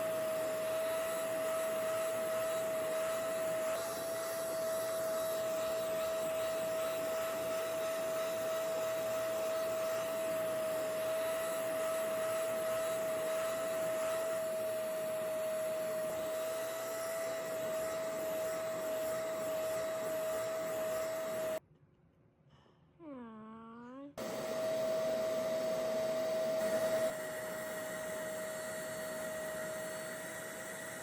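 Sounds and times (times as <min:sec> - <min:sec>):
carpet cleaner whining: 0:00.0 - 0:21.6, 0:24.2 - 0:31.0.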